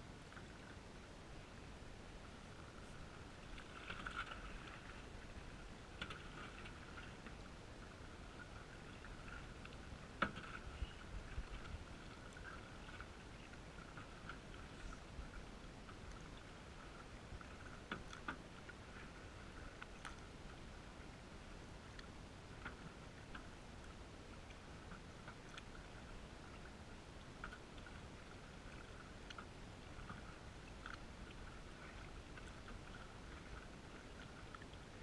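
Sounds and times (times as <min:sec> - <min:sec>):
faint water noise: 0:00.0 - 0:35.0.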